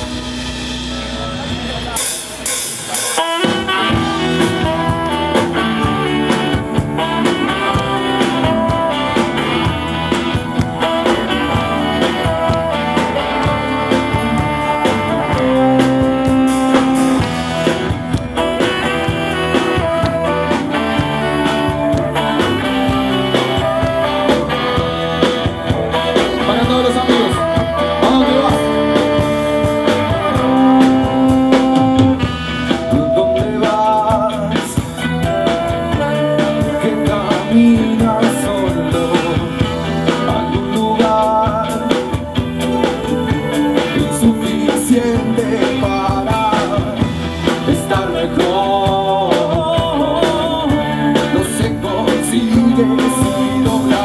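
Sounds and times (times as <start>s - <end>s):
blues band playing live: 0.0s - 54.0s
lead vocal singing: 3.4s - 54.0s.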